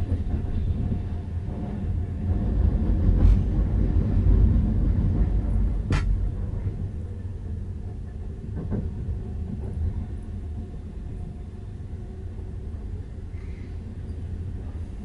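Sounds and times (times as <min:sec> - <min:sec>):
train carriage rumbling on rails: 0:00.0 - 0:15.0.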